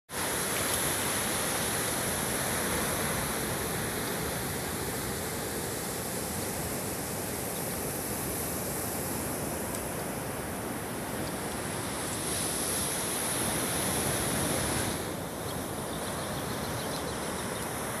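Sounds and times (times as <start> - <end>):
ocean surf: 0.1 - 18.0.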